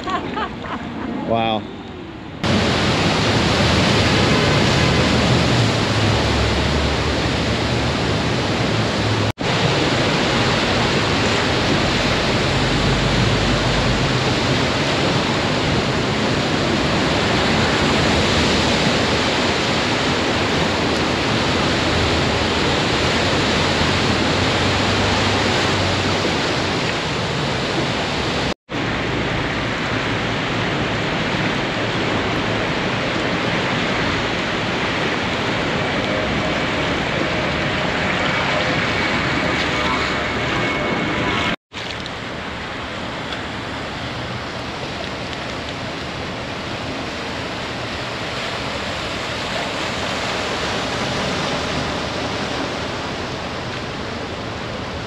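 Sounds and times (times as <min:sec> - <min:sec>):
floodwater rushing and splashing: 0:00.0 - 0:55.0.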